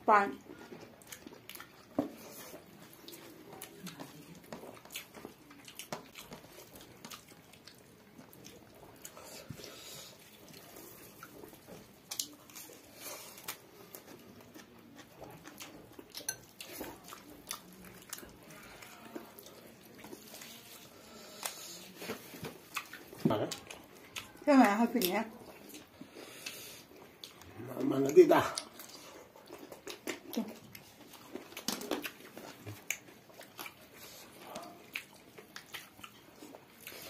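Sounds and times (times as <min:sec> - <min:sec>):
people chewing food: 0:00.0 - 0:37.0.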